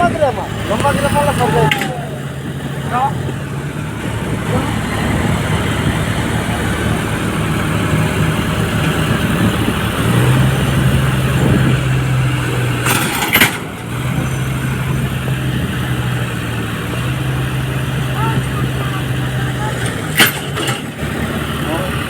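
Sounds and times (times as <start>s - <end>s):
tractor engine humming: 0.0s - 22.0s.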